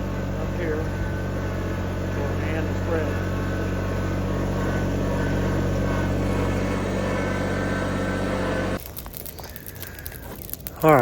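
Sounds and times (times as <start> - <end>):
excavator engine humming: 0.0 - 10.9.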